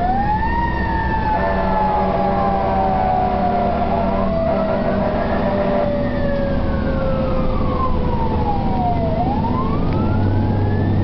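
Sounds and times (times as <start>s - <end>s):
fire truck siren wailing: 0.0s - 11.0s
second siren tone sliding down: 0.0s - 11.0s
truck engine droning: 0.0s - 11.0s.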